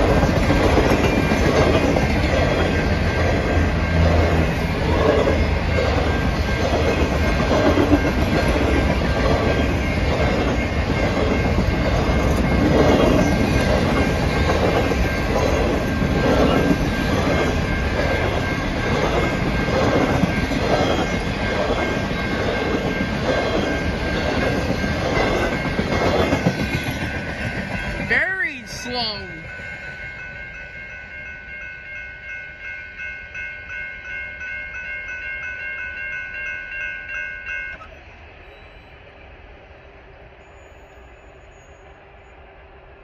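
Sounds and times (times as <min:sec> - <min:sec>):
crossing bell ringing: 0:00.0 - 0:38.2.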